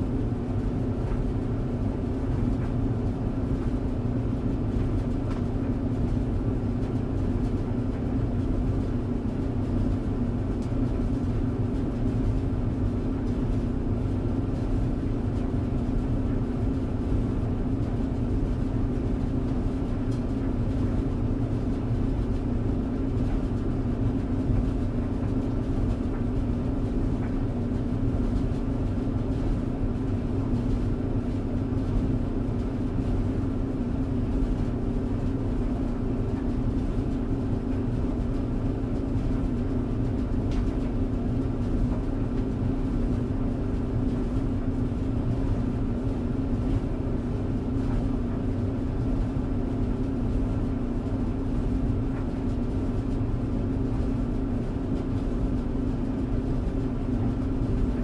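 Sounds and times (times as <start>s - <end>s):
tumble dryer running: 0.0s - 58.0s.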